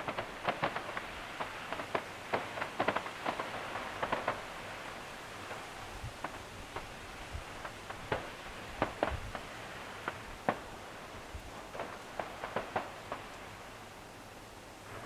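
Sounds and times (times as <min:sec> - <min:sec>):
distant fireworks popping: 0:00.0 - 0:14.0
steady hiss: 0:00.0 - 0:15.0.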